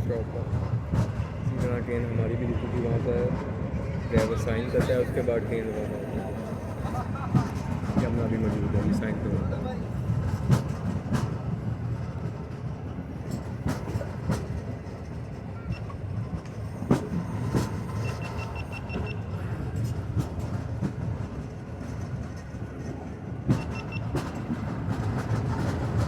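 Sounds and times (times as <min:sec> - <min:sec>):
train coach rumbling: 0:00.0 - 0:26.0.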